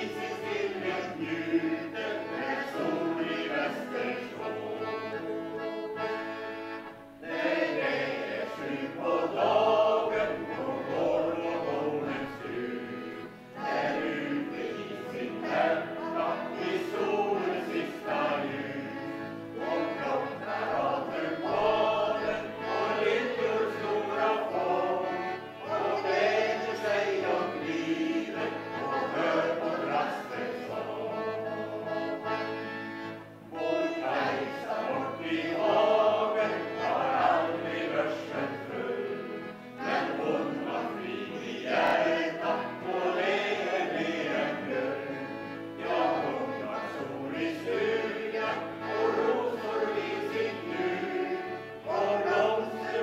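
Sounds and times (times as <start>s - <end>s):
mixed choir singing: 0.0s - 6.5s, 7.2s - 53.0s
accordion: 0.0s - 53.0s.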